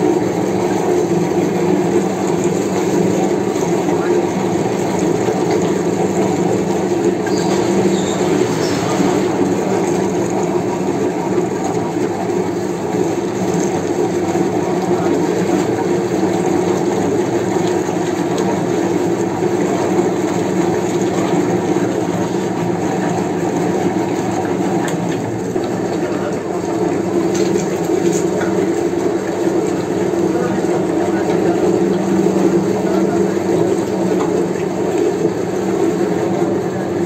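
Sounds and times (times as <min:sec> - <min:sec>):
meat mincer machine droning: 0:00.0 - 0:37.0.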